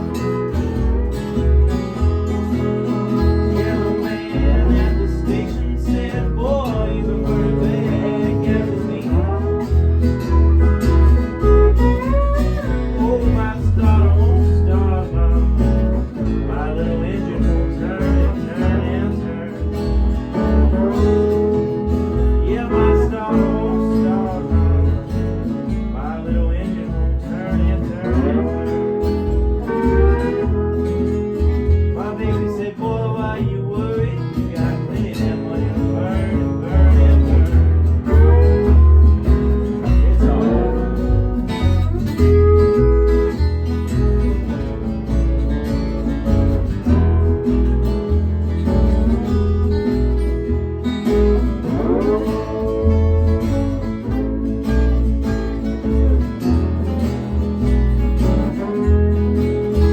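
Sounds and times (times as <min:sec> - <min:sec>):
blues guitar with sliding notes: 0:00.0 - 0:59.9.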